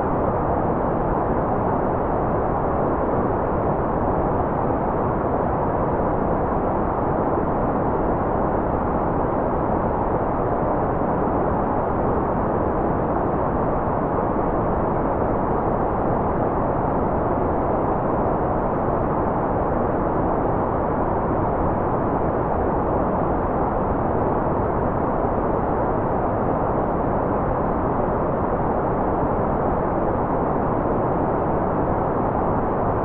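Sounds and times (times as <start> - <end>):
dull white noise rush: 0.0 - 33.0.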